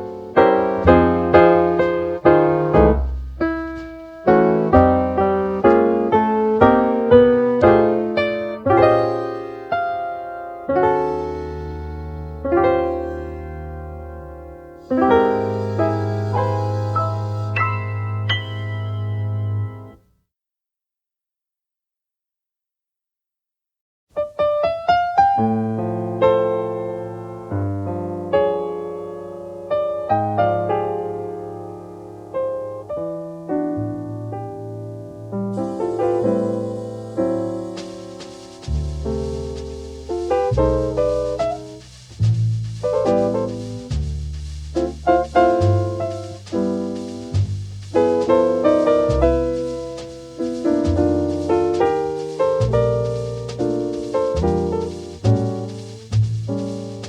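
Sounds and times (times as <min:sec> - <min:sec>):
slow gentle piano melody: 0:00.0 - 0:20.0, 0:24.2 - 0:57.0.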